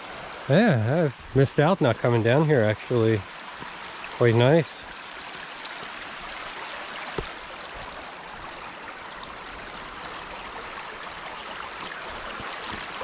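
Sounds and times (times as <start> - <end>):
creek running over stones: 0.0 - 13.0.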